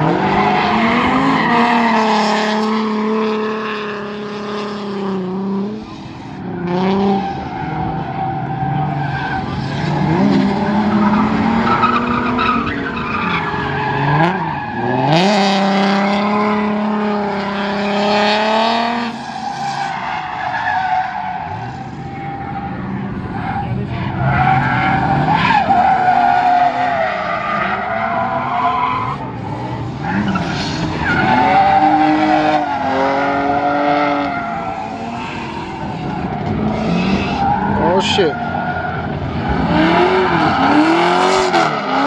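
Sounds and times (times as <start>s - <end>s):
car engines revving high: 0.0s - 42.0s
tyres screeching on asphalt: 0.0s - 42.0s.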